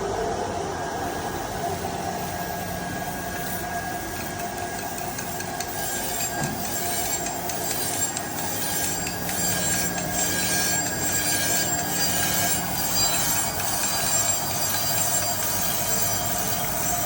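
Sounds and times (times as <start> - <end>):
machine hum: 0.0 - 17.0
grinding wheel on steel: 2.2 - 17.0.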